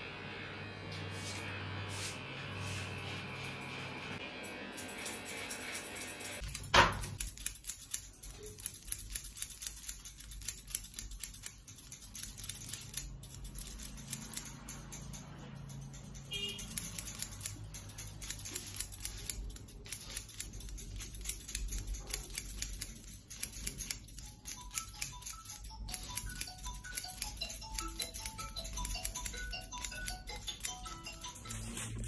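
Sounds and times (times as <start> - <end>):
scissors snipping hair: 4.4 - 32.0.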